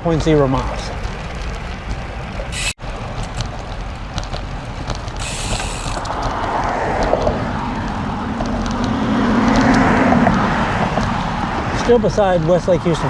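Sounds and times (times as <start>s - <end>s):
road traffic: 0.0s - 13.0s
vehicle approaching: 0.0s - 13.0s
wind rumbling on microphone: 0.2s - 13.0s.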